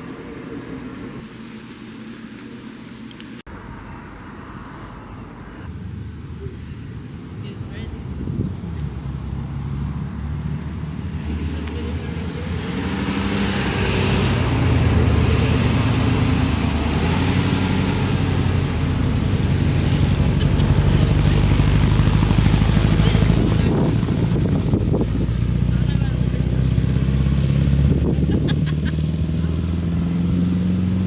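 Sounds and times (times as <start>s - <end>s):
vehicle engine running: 3.5s - 31.0s.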